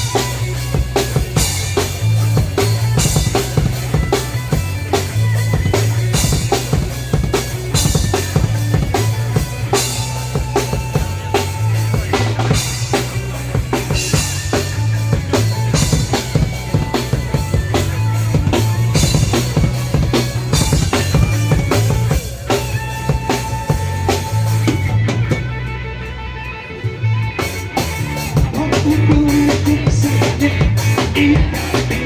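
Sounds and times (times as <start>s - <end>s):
drum kit beat: 0.0s - 25.8s, 27.2s - 32.0s
heavy bass line: 0.0s - 32.0s.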